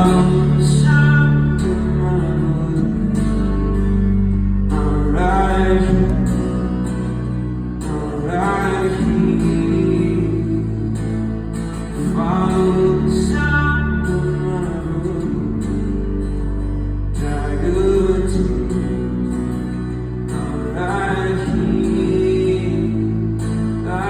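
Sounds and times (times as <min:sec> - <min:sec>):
person singing: 0:00.0 - 0:07.0, 0:07.8 - 0:11.3, 0:11.9 - 0:16.0, 0:17.2 - 0:19.2, 0:20.4 - 0:24.0
guitar: 0:00.0 - 0:24.0
held low chords: 0:00.0 - 0:24.0.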